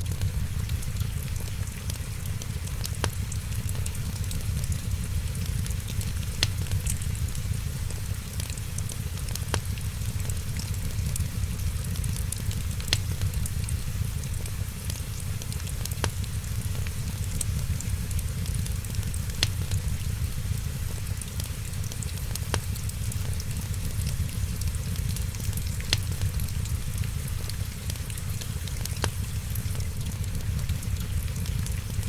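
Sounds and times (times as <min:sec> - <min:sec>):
fire popping: 0:00.0 - 0:32.0
wood fire crackling: 0:00.0 - 0:32.0.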